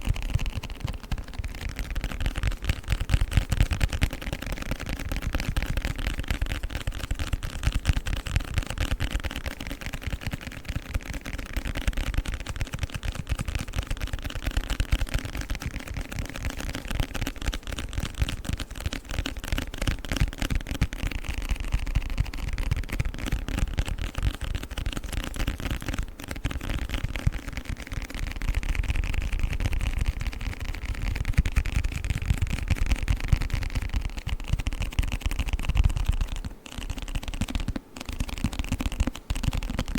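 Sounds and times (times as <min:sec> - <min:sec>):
quick taps and clicks on book: 0:00.0 - 0:39.9.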